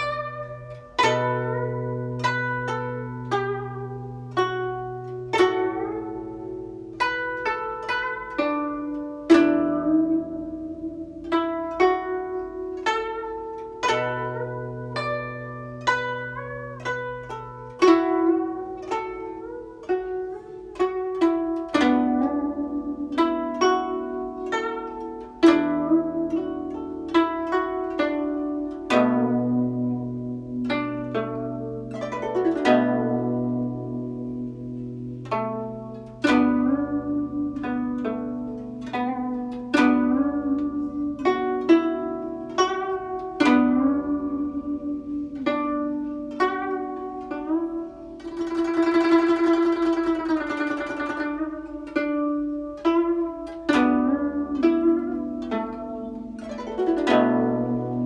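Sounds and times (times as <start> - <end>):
plucked zither notes: 0.0 - 58.0.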